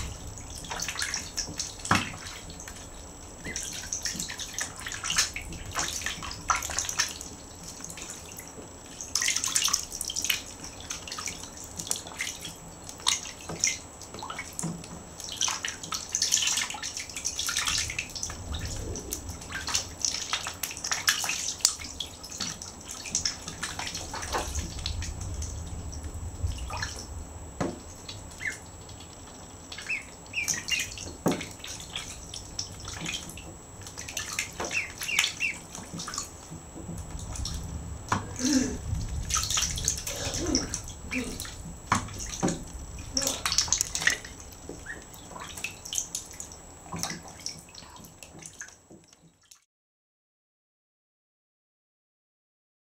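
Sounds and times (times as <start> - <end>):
ducklings splashing in water: 0.0 - 49.6
water dripping: 0.0 - 49.6.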